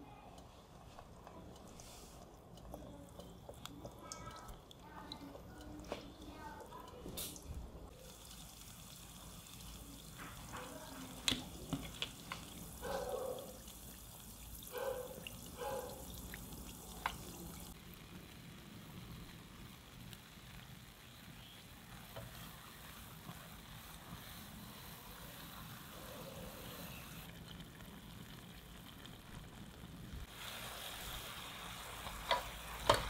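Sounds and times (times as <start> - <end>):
oil sizzling in a pan: 0.0 - 33.0.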